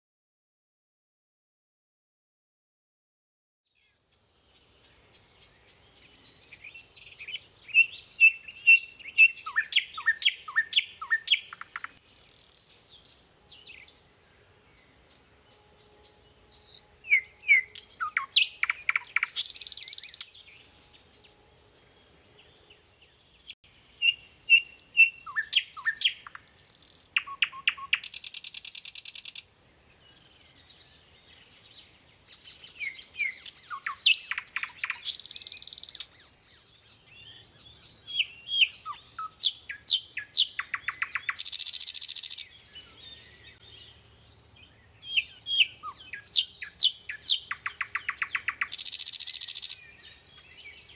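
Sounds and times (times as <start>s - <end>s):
songbird singing: 3.7s - 50.9s.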